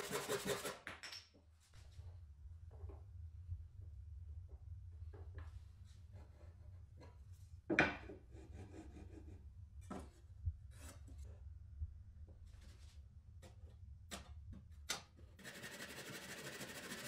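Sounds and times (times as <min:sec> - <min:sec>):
low steady hum: 0:01.5 - 0:15.3.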